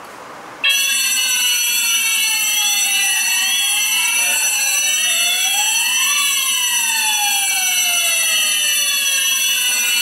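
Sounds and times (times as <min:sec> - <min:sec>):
fire alarm wailing: 0:00.6 - 0:10.0
steady high-pitched tone: 0:00.6 - 0:10.0.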